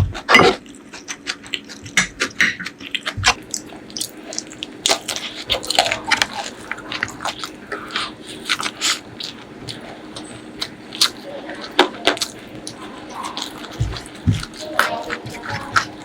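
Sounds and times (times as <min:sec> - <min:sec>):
mouth chewing food: 0:00.0 - 0:16.0.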